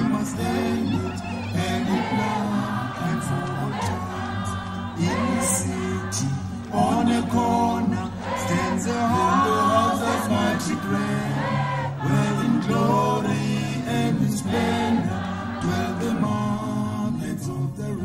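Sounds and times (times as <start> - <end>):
choir singing in harmony: 0.0 - 18.0.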